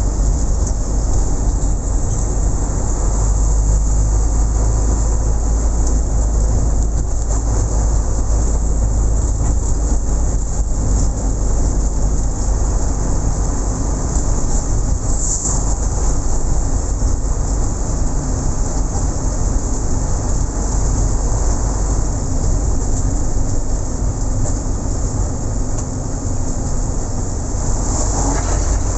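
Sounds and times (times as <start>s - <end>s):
moving vehicle rumbling: 0.0s - 28.9s.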